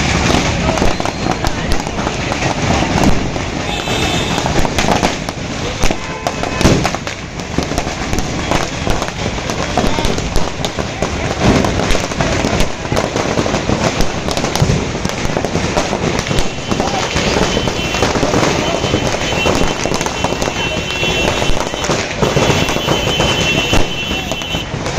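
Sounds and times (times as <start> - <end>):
firecrackers crackling: 0.0 - 24.9.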